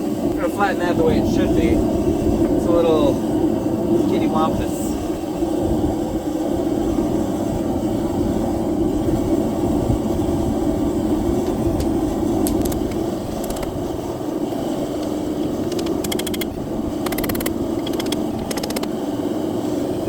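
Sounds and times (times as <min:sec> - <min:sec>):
forge burner roaring: 0:00.0 - 0:20.0.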